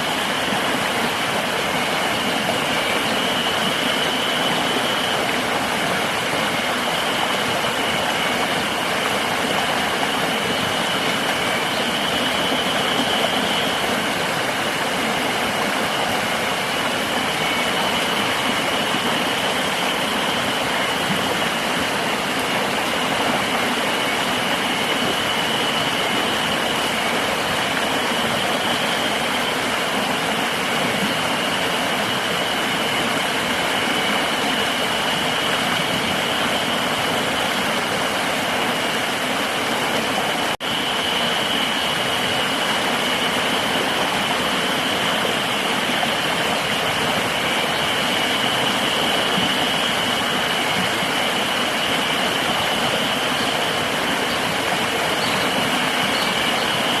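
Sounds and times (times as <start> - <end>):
river water running: 0.0 - 57.0.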